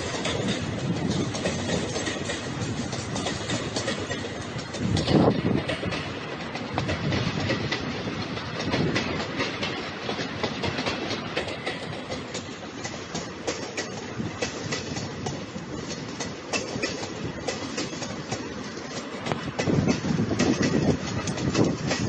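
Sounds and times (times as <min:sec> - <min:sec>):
train wheels clattering over rails: 0:00.0 - 0:22.0.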